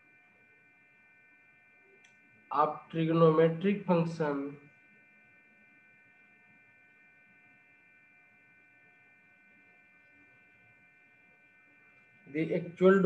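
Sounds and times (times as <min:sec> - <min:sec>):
faint electrical hum with whine: 0:00.0 - 0:13.0.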